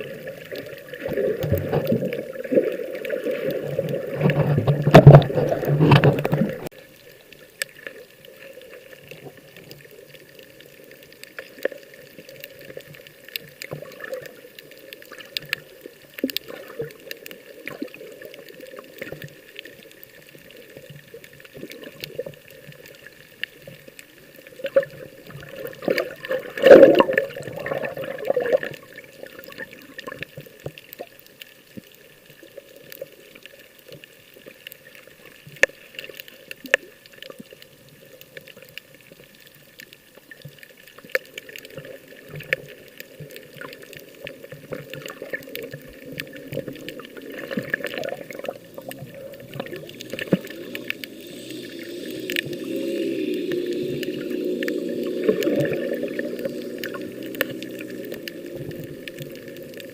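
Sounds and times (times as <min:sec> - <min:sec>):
sea water sloshing and splashing: 0:00.0 - 0:59.9.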